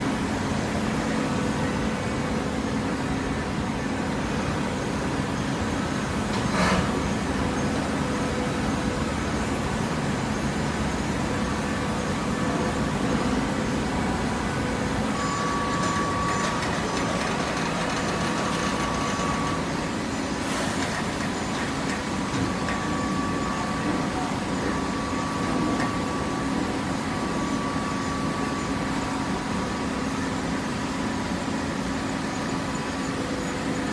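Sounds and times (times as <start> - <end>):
hydraulic press machinery hum: 0.0 - 33.9.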